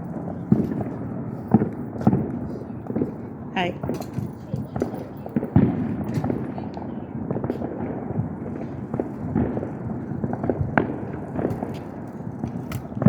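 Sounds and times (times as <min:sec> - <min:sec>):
fireworks crack: 0:00.0 - 0:13.0
fireworks popping and crackling: 0:00.0 - 0:13.0.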